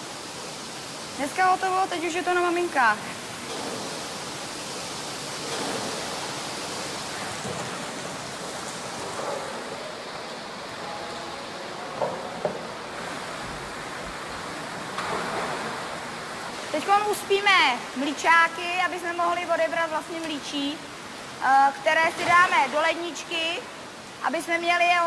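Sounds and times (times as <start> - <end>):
running splashing water: 0.0 - 25.0.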